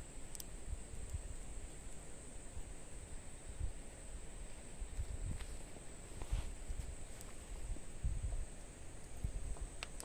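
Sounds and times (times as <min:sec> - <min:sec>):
steady high-pitched whine: 0:00.0 - 0:10.0
wind rumble on microphone: 0:00.0 - 0:10.0.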